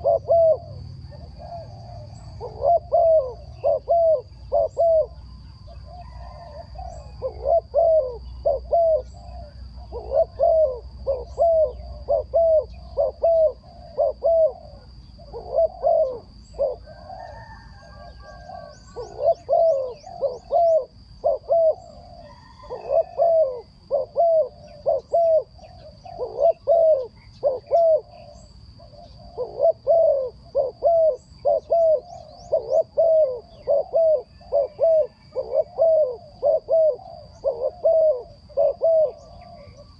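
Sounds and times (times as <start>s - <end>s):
bird hooting: 0.0s - 39.9s.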